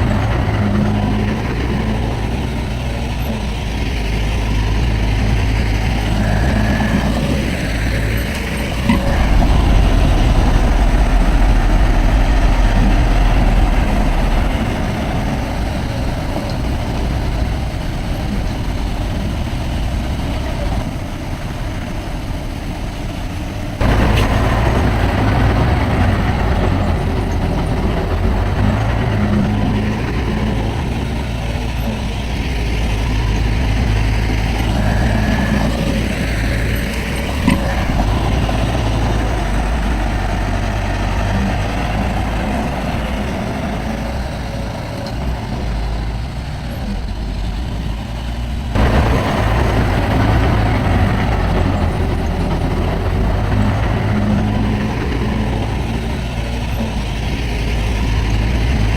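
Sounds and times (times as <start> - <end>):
diesel machinery running: 0.0 - 58.9.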